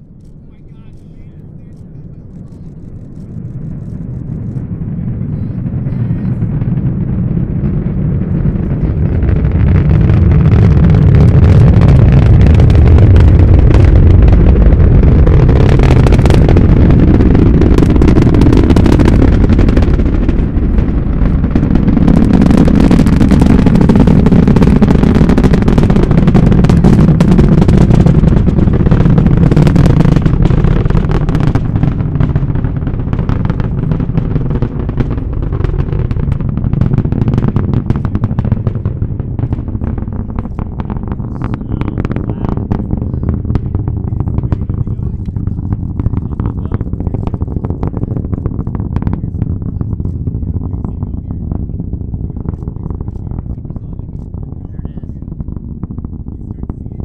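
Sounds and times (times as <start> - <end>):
rocket engines deep rumble: 0.0 - 57.0
sharp crackles: 0.0 - 57.0.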